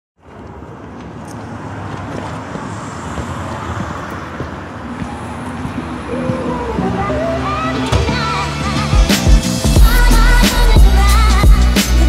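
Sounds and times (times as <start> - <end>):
street traffic rumble and hiss: 0.2 - 12.0.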